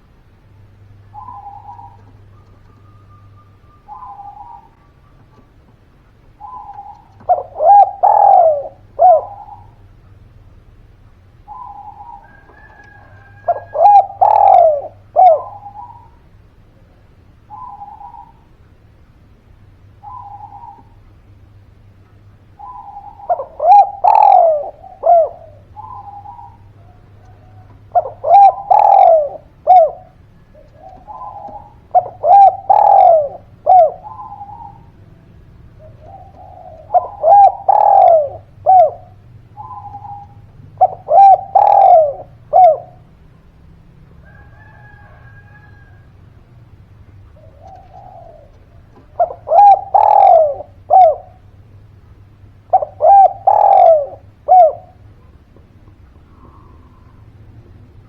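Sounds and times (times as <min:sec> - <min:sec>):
dove cooing: 0:00.0 - 0:10.3, 0:11.4 - 0:18.6, 0:20.0 - 0:21.4, 0:22.4 - 0:58.0
faint low hum: 0:00.0 - 0:58.0.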